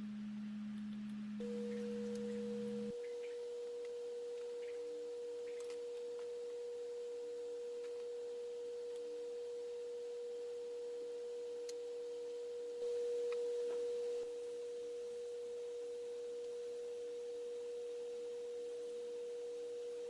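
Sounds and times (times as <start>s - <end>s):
steady pure tone: 0.0s - 20.0s.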